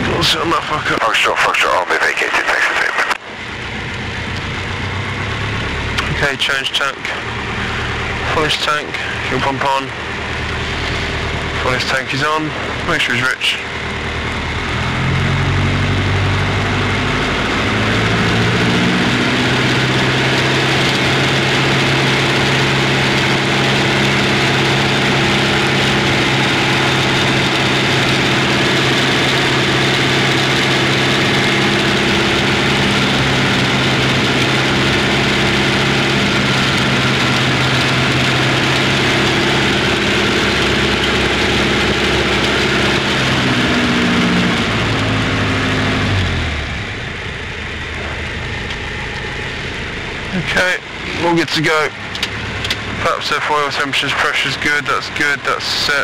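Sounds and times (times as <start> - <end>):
aircraft piston engine and propeller: 0.0 - 56.0.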